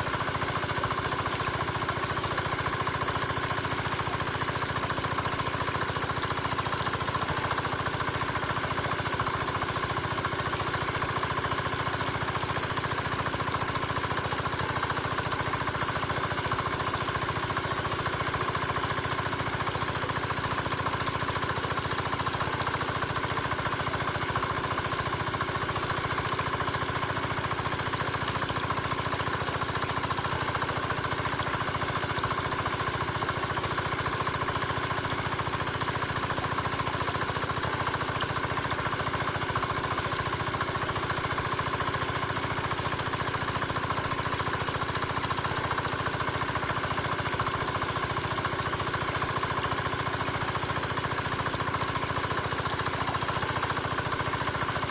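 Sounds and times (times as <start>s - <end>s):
diesel engine driving water pump: 0.0s - 54.9s.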